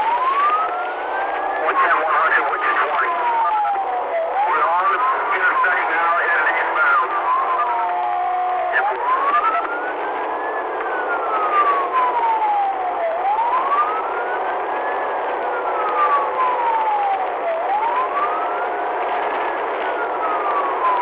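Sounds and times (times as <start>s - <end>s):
police siren wailing: 0.0s - 21.0s
road noise: 0.0s - 21.0s.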